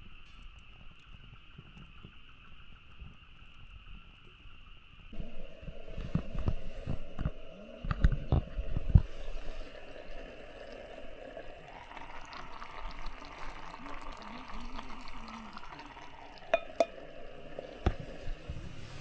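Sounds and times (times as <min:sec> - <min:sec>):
food simmering hiss: 0:00.0 - 0:19.0.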